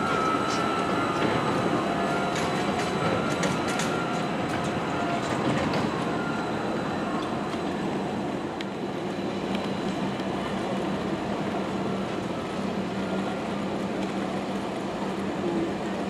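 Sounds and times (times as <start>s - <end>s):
buses humming: 0.0s - 16.0s.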